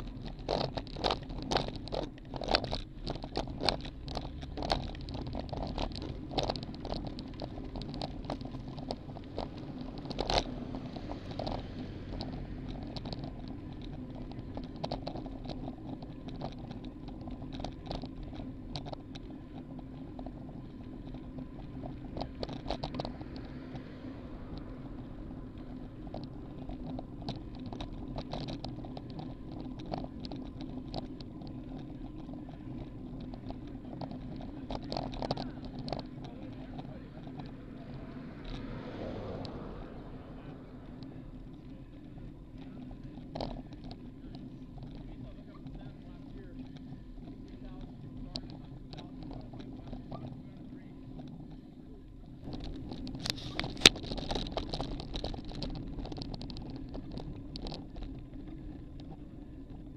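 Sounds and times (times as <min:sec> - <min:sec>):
bike rattling clicks over bumps: 0:00.0 - 0:59.9
bike rolling on pavement rumble: 0:00.0 - 0:59.9.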